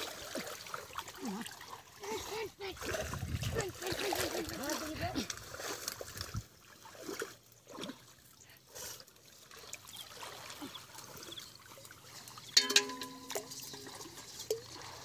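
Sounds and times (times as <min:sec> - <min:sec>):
small water splashes: 0:00.0 - 0:15.0
water trickling and dribbling: 0:00.0 - 0:15.0.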